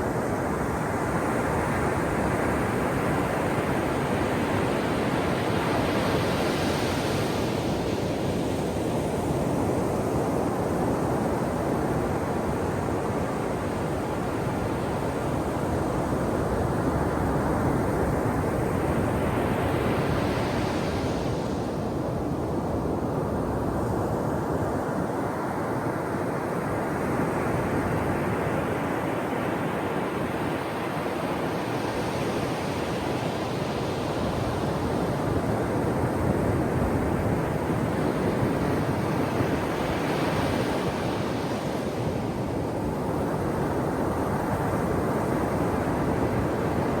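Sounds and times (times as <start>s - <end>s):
ocean waves breaking on shore: 0.0s - 47.0s.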